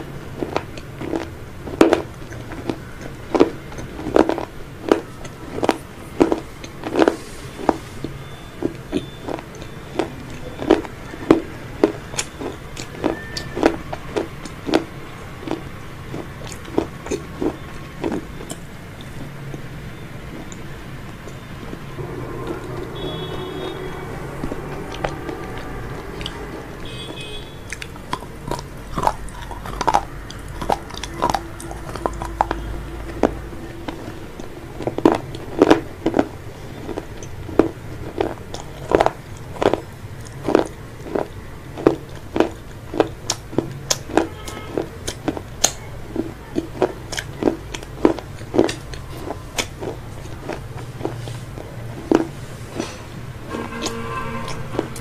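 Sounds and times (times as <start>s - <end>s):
chewing: 0.0s - 55.0s
crunching fried food: 0.0s - 55.0s.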